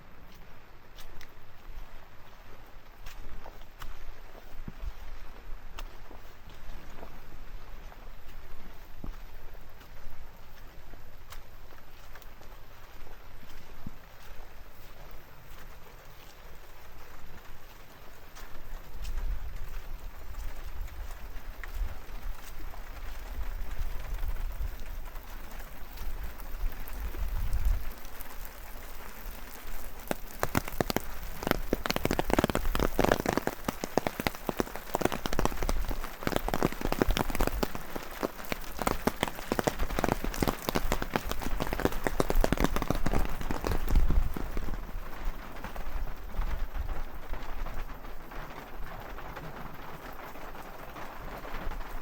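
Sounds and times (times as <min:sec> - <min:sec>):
low rumble of wind: 0:00.0 - 0:52.0
rain patter of large drops: 0:00.0 - 0:52.0.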